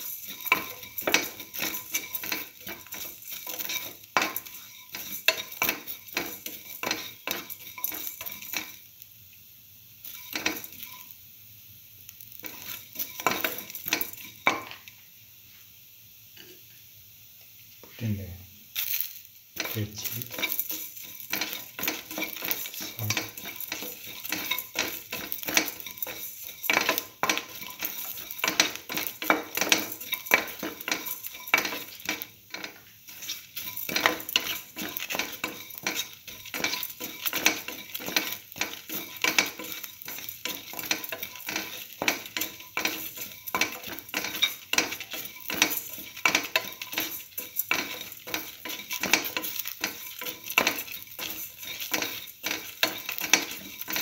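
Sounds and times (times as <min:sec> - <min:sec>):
spatula scraping metal pan: 0:00.0 - 0:08.8, 0:10.0 - 0:11.1, 0:12.4 - 0:14.8, 0:19.6 - 0:54.0
oil sizzling: 0:00.0 - 0:54.0.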